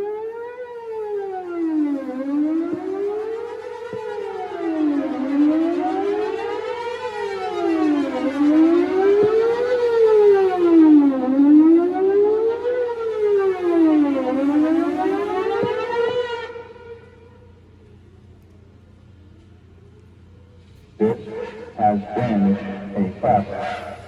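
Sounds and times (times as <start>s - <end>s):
warning siren wailing: 0.0s - 24.0s.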